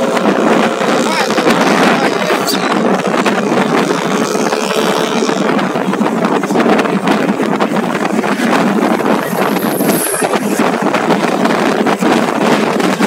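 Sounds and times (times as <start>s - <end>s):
motorcycle engine: 0.0s - 11.8s
road noise: 0.0s - 13.0s
wind buffeting microphone: 0.0s - 13.0s.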